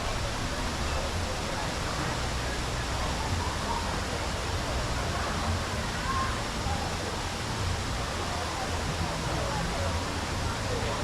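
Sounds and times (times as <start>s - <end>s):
faint distant voices: 0.0s - 11.0s.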